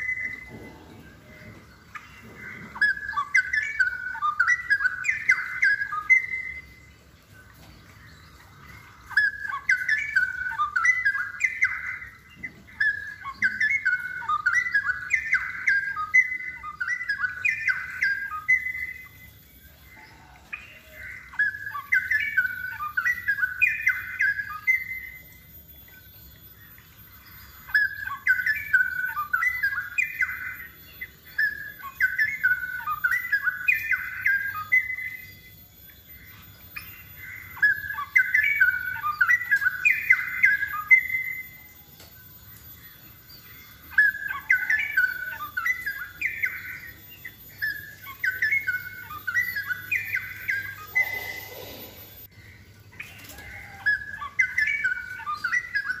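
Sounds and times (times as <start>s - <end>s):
bird singing bubbling phrases: 0.0s - 56.0s.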